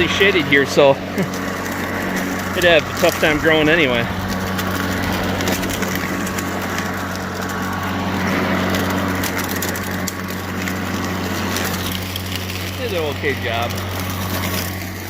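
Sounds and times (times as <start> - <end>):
blade chopping dry leaves: 0.0 - 15.0
electric lawn mower humming: 0.0 - 15.0.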